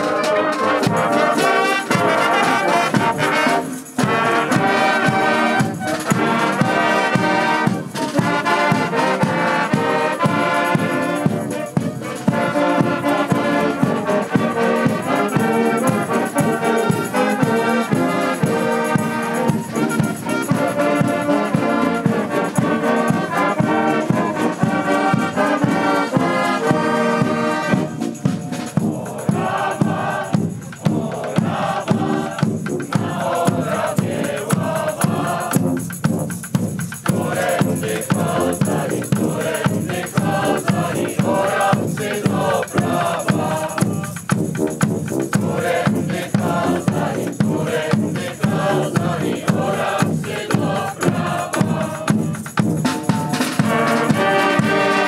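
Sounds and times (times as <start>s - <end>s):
brass band playing a march: 0.0s - 55.0s
steady drum beat: 0.0s - 55.0s.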